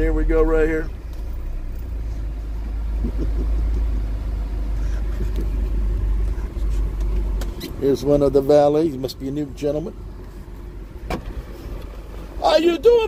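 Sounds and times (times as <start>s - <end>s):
van engine and tyres rumbling: 0.0s - 13.0s.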